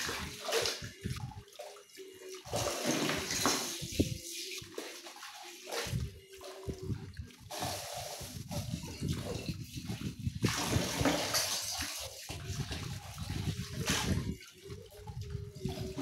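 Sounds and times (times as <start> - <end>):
water splashing off plates: 0.0 - 16.0.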